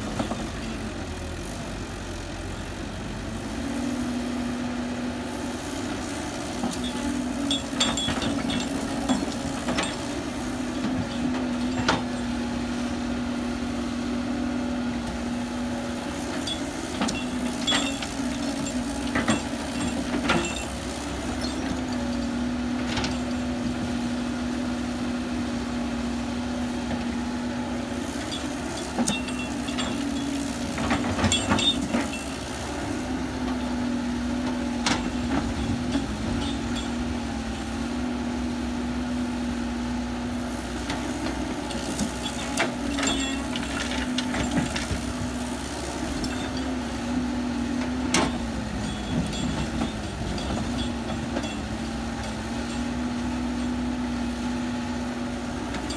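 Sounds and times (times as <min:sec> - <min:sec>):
construction machine engine running: 0:00.0 - 0:55.9.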